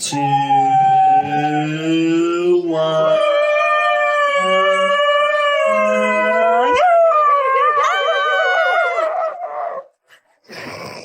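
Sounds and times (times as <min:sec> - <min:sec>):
dog howling: 0:00.0 - 0:09.9
lower voice howling: 0:00.0 - 0:09.9.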